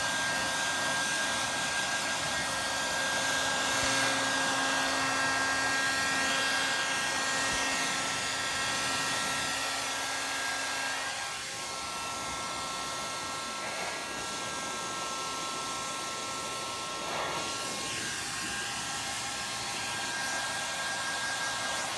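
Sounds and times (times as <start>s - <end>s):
hair dryer blowing with whine: 0.0s - 21.9s.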